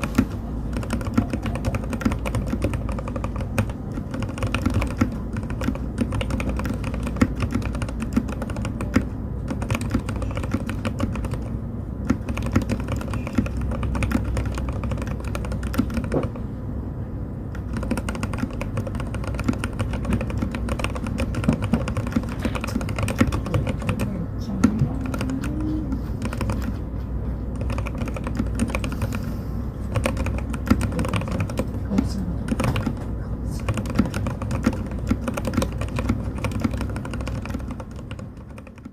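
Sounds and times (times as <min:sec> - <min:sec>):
fast typing on mechanical keyboard: 0:00.0 - 0:16.5, 0:17.5 - 0:38.9.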